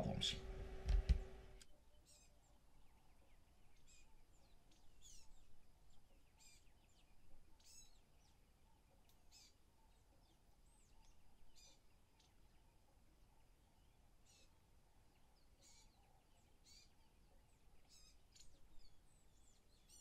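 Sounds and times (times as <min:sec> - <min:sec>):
faint high bird chirps: 0:01.2 - 0:20.0.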